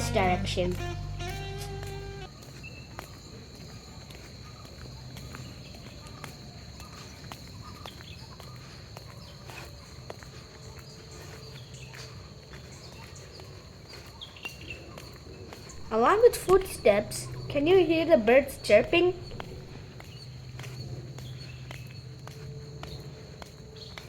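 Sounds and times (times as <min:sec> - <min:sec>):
birds chirping: 0:00.0 - 0:24.0
footsteps on a path: 0:00.0 - 0:24.0
high insect drone: 0:00.0 - 0:24.0.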